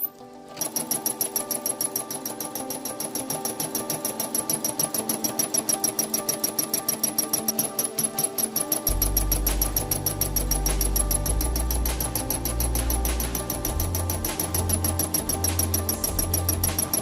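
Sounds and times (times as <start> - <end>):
embroidery machine stitching: 0.6 - 17.0.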